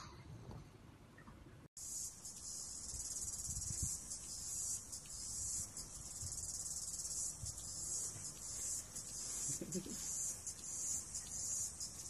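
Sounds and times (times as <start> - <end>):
insects chirping: 1.8 - 12.0.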